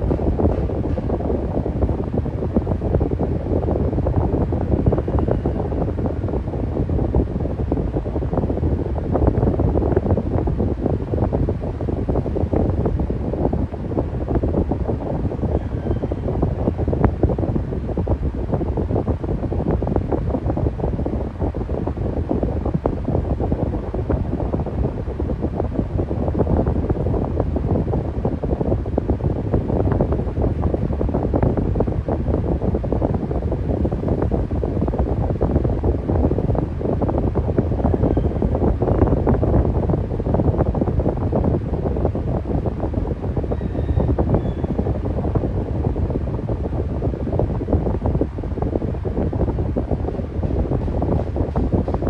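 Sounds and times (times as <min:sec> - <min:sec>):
electric fan running: 0:00.0 - 0:52.0
wind buffeting microphone: 0:00.0 - 0:52.0.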